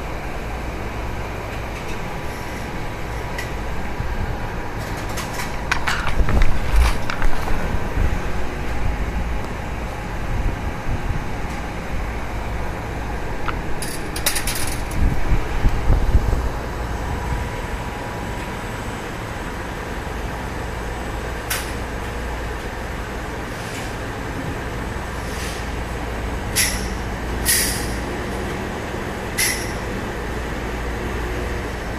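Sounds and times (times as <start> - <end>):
spring coiling machine droning: 0.0 - 31.9.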